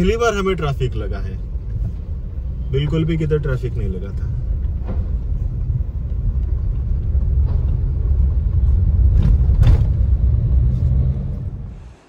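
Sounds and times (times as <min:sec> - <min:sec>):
car low rumble: 0:00.0 - 0:12.0.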